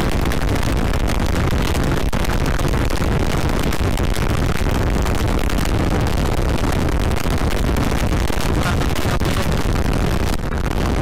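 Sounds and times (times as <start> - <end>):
wind rushing on microphone: 0.0 - 11.0.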